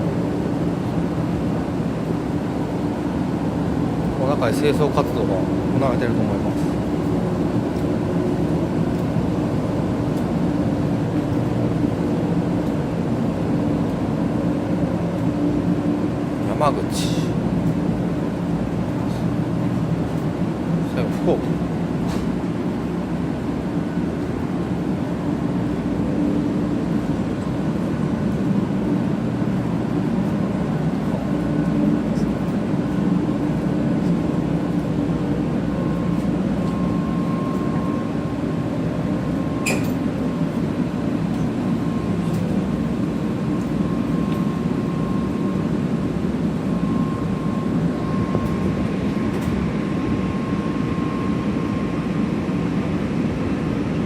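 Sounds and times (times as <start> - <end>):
low hum of standing train: 0.0 - 54.0.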